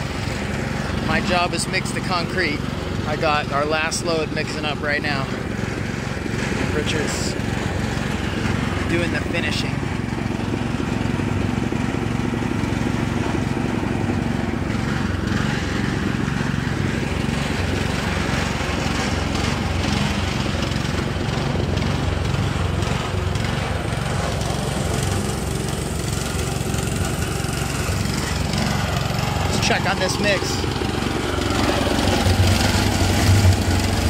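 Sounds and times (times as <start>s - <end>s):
concrete mixer running: 0.0s - 34.0s.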